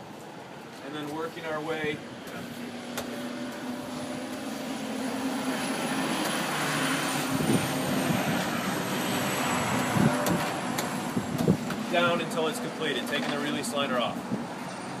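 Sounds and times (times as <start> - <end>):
aircraft passing overhead: 0.0 - 15.0.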